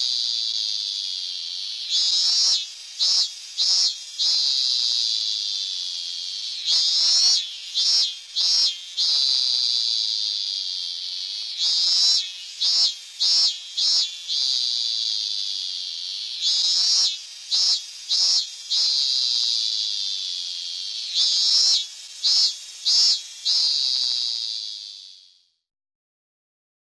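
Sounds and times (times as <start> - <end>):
cicada buzzing song: 0.0 - 25.6.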